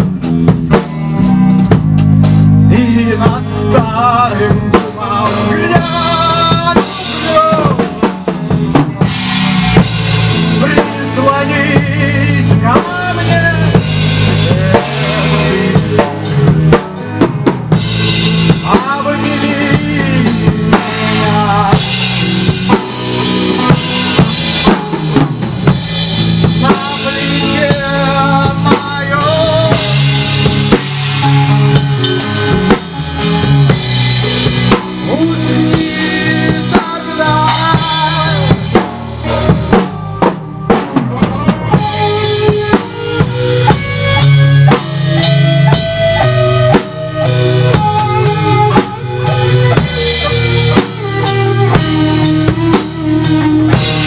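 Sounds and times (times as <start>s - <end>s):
bass guitar: 0.0s - 54.0s
drum kit: 0.0s - 54.0s
electric guitars: 0.0s - 54.0s
wavering lead guitar melody: 0.0s - 54.0s.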